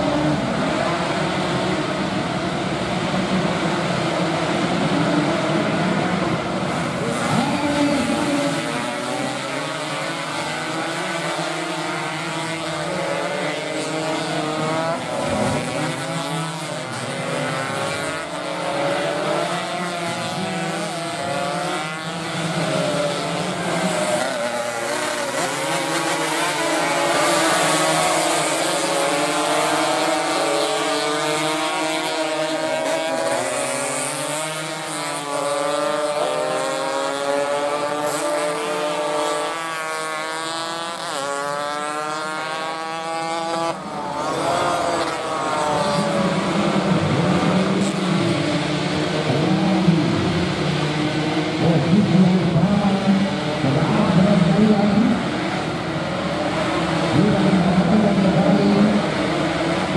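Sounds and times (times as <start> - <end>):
racing motorcycles passing by: 0.0 - 59.9.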